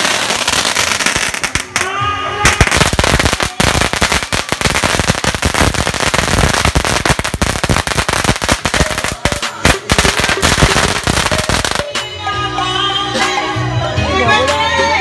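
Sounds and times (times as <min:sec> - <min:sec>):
fireworks crackling and popping: 0:00.0 - 0:12.2.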